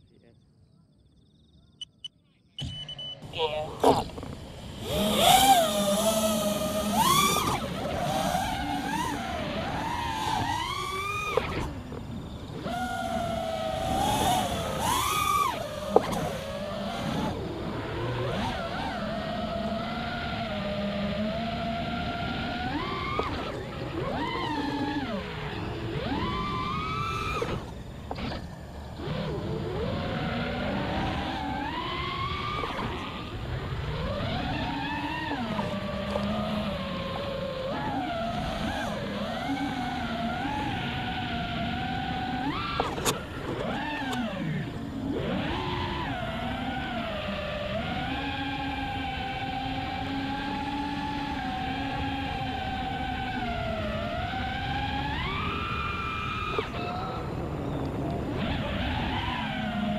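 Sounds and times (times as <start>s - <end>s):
quadcopter motors whining: 1.1s - 59.9s.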